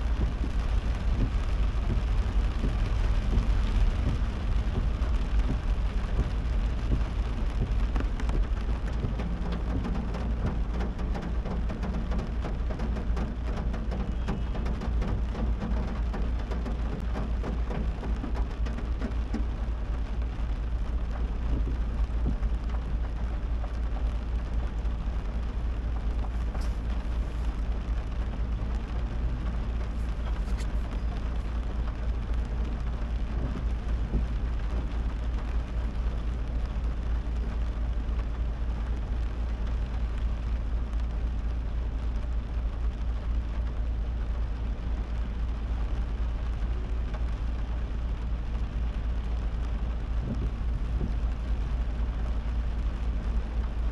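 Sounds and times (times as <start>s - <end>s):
car and road rumble: 0.0s - 53.9s
rain hiss: 0.0s - 53.9s.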